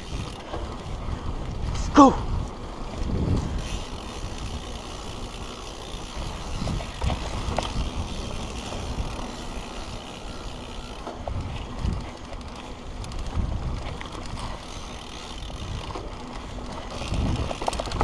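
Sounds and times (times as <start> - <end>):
bike rattling over bumps: 0.0 - 18.0
bike tyres rolling over dirt: 0.0 - 18.0
wind buffeting microphone: 0.0 - 18.0.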